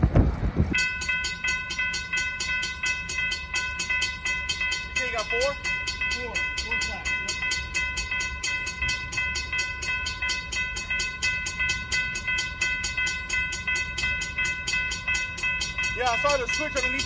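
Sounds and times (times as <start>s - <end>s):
crossing warning bell ringing: 0.7s - 17.0s.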